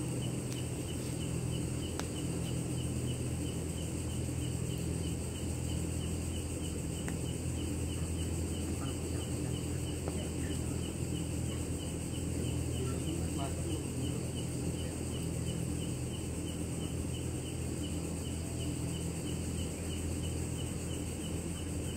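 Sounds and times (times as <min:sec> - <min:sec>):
low steady hum: 0:00.0 - 0:21.9
night insects trilling and chirping: 0:00.0 - 0:21.9.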